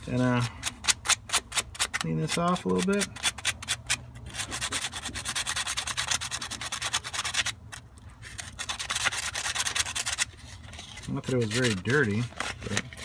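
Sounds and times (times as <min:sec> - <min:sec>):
sandpaper rubbing on metal: 0:01.0 - 0:07.6, 0:08.3 - 0:13.0.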